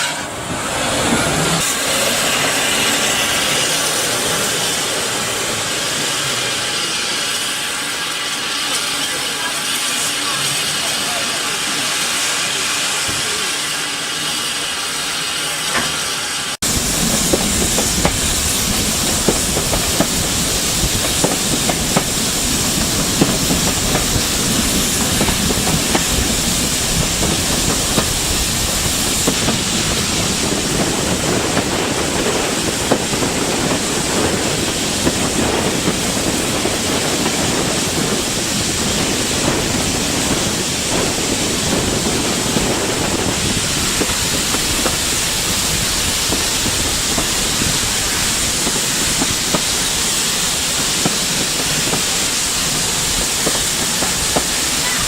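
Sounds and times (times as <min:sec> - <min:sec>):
steam hissing: 0:00.0 - 0:55.0
steam train rushing along track: 0:00.0 - 0:55.0.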